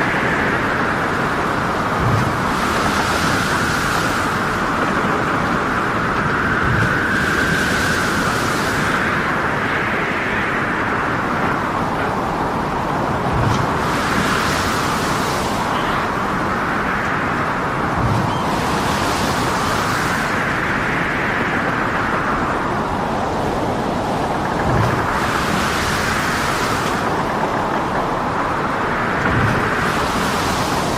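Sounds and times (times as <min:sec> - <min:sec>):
heavy waves: 0:00.0 - 0:30.9
rushing wind: 0:00.0 - 0:30.9.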